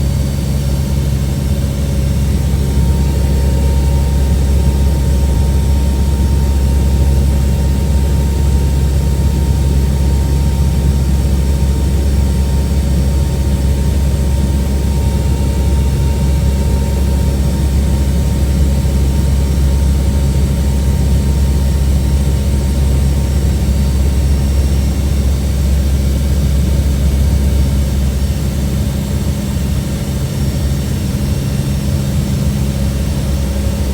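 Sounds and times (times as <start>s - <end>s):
turboprop engines droning: 0.0s - 33.9s.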